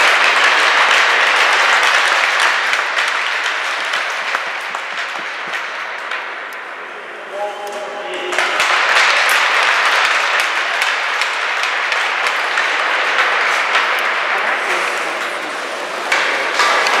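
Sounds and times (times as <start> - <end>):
spectators clapping: 0.0 - 6.6, 8.1 - 17.0.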